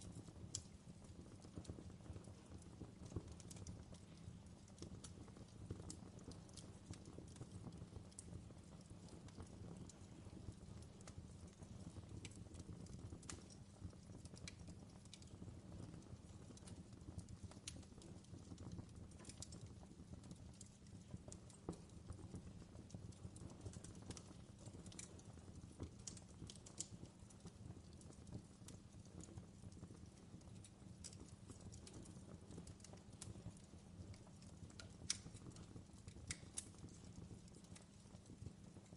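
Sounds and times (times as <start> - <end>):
faint fireplace crackling: 0.0 - 38.9
low rumble of fire: 0.0 - 38.9.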